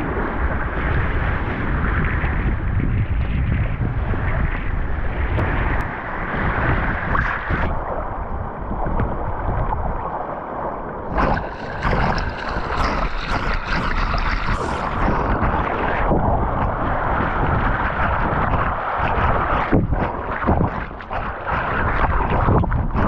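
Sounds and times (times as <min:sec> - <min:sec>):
water rushing along hull: 0:00.0 - 0:23.0
wind rumbling on microphone: 0:00.0 - 0:23.0.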